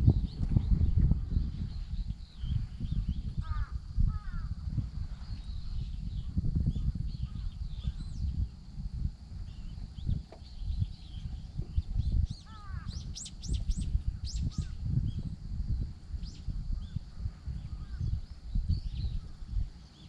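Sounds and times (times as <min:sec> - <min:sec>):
low uneven rumble: 0:00.0 - 0:20.0.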